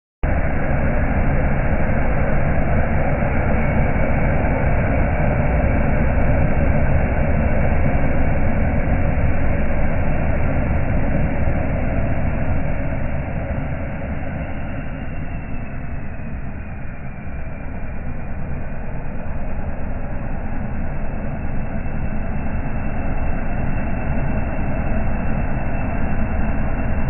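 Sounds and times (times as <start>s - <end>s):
truck engine under heavy load: 0.3s - 27.0s.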